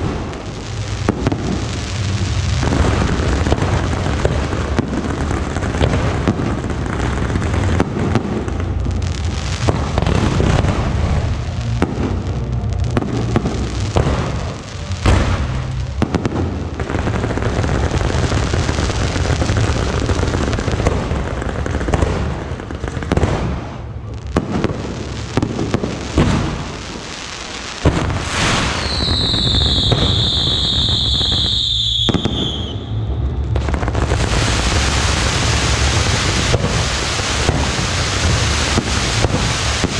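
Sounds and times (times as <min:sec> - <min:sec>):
long high firework whistle: 0:00.0 - 0:20.4, 0:24.4 - 0:39.9
fireworks crackling bangs and booms: 0:00.0 - 0:39.9.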